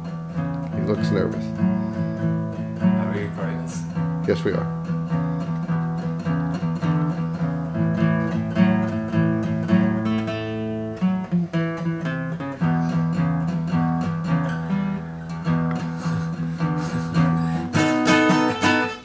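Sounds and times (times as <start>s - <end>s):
acoustic guitar blues: 0.0s - 19.0s.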